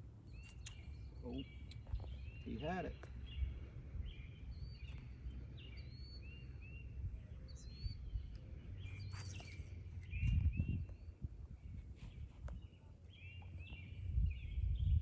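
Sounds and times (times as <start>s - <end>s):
low steady rumble: 0.0s - 15.0s
birds chirping: 0.2s - 11.3s, 12.0s - 15.0s.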